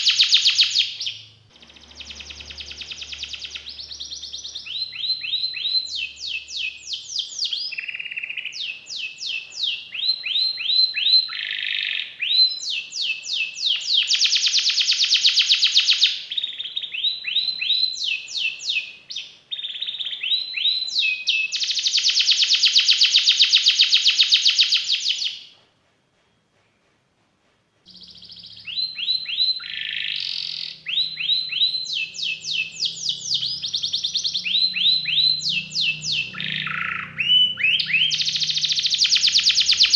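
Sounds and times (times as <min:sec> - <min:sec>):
canary singing: 0:00.0 - 0:25.4, 0:27.9 - 0:39.9.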